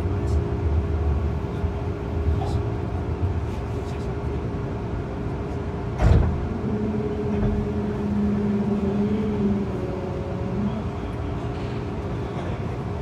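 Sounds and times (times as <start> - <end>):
steady low hum: 0.0 - 13.0
train low rumble: 0.0 - 13.0.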